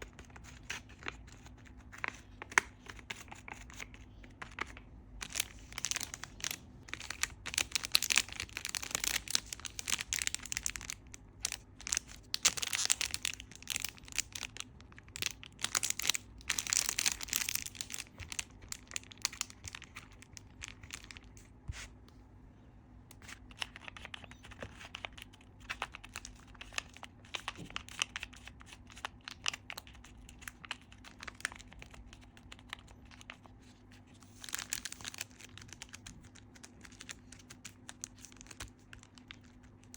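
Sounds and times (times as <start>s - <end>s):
crinkling scratchy rustling: 0.0s - 22.0s, 23.2s - 39.9s.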